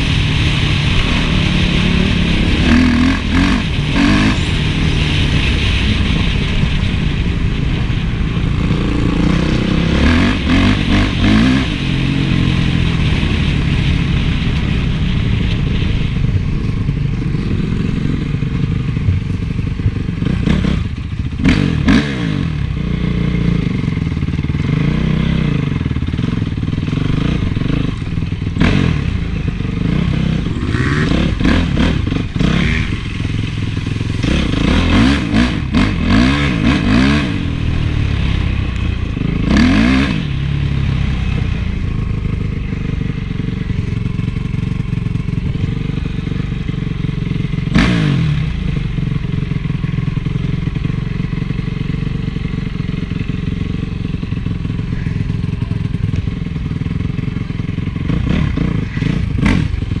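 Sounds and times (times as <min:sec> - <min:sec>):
motocross engine revving: 0:00.0 - 0:24.0, 0:24.6 - 1:00.0.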